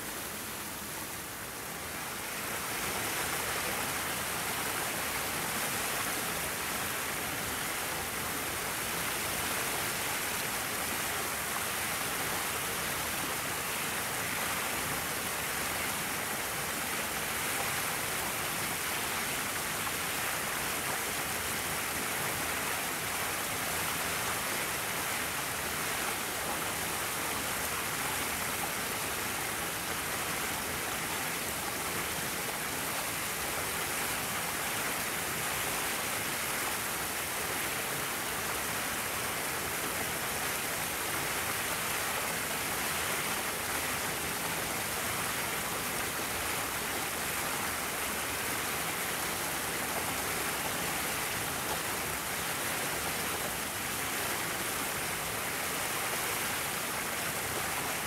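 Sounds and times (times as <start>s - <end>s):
hiss of running water: 0.0s - 58.0s.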